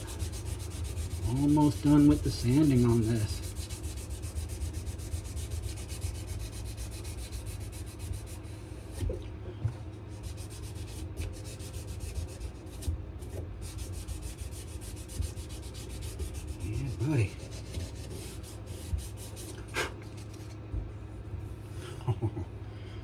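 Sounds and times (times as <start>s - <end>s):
sandpaper rubbing on wood: 0.0s - 8.9s, 10.2s - 20.5s.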